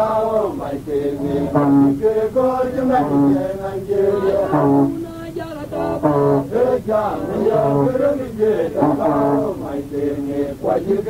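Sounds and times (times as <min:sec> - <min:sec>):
man chanting: 0:00.0 - 0:02.0, 0:02.6 - 0:04.9, 0:05.7 - 0:11.0.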